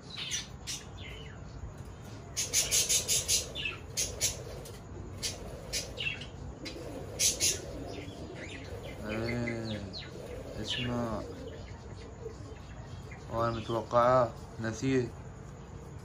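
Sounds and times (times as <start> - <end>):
sparrow chirping: 0.0 - 16.0.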